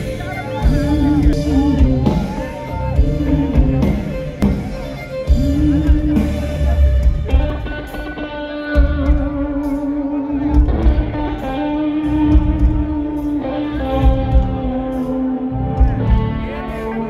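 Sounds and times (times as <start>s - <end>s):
electric guitar holding notes: 0.0s - 17.0s
live rock band playing: 0.0s - 17.0s.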